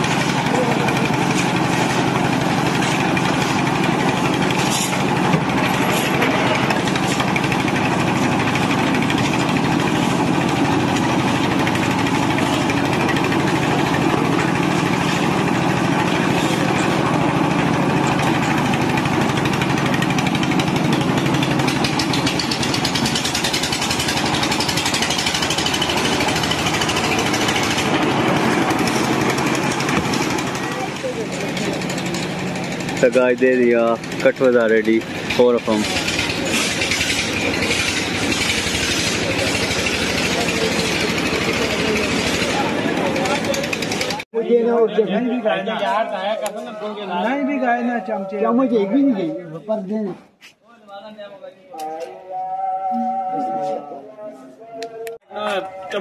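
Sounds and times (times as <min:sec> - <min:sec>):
concrete mixer running: 0:00.0 - 0:47.5.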